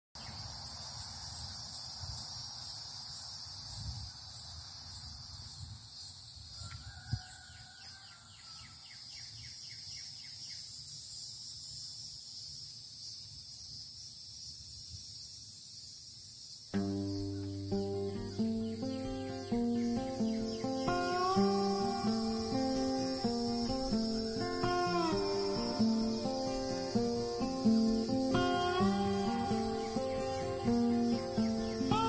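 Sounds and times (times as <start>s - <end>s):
cicadas droning: 0.2s - 32.0s.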